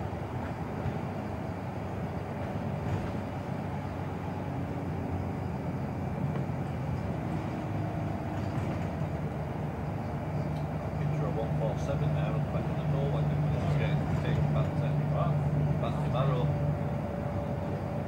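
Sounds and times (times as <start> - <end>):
bus diesel engine drone: 0.0 - 18.0
road and tyre noise: 0.0 - 18.0.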